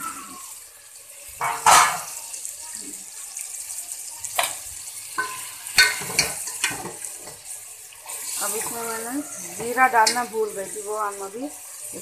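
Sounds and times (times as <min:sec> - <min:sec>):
chicken sizzling in pot: 0:00.0 - 0:12.0.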